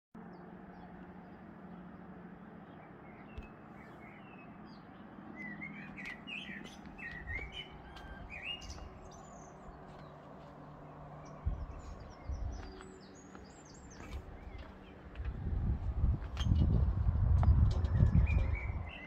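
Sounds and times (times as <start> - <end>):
songbirds singing: 0.2 - 19.0.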